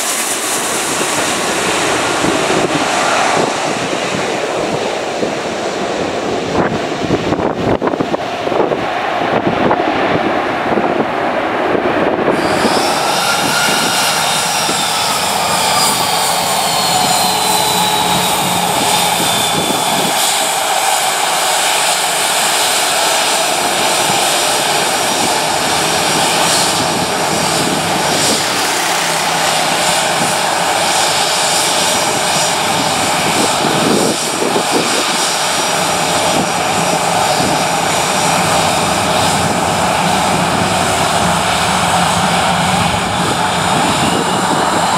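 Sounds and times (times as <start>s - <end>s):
jet engines whining: 0.0s - 44.9s.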